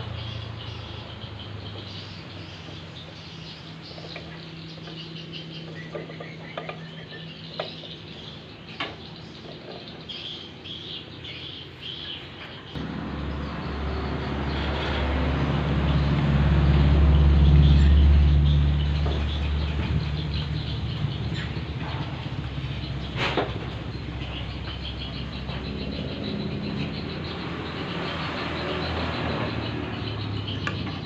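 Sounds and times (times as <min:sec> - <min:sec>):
birds chirping: 0:00.0 - 0:31.0
low engine rumble: 0:00.0 - 0:31.0.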